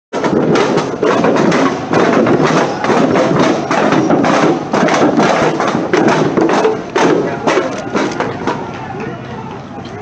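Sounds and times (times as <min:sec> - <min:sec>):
percussive banging and knocking: 0:00.1 - 0:09.1.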